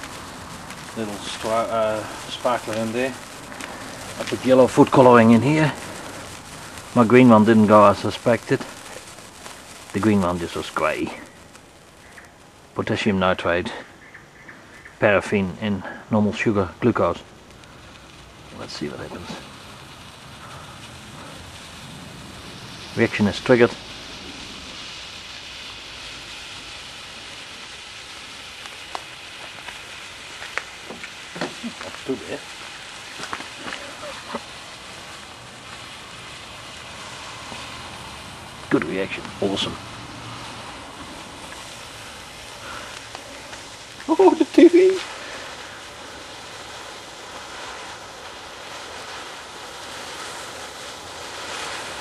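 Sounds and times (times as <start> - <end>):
smoke mixture burning with hiss: 0.0 - 52.0.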